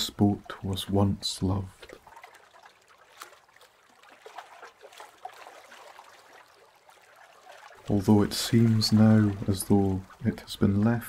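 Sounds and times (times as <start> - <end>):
small water splashes: 0.0 - 11.0
waves lapping against boat hull: 0.0 - 11.0.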